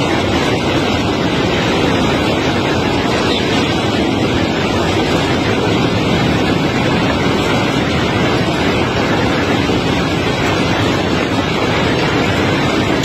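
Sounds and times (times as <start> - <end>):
heavy machinery rumbling: 0.0 - 13.0.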